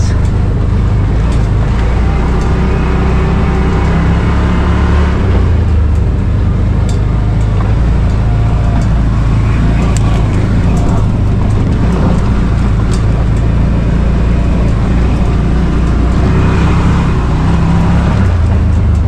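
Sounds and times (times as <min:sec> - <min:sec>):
utility vehicle engine drone: 0:00.0 - 0:19.0.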